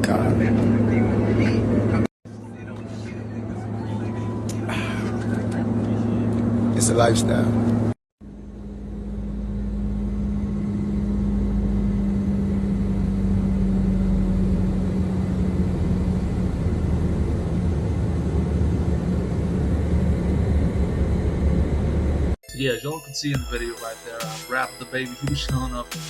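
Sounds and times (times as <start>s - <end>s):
jet engines droning: 0.0s - 22.4s.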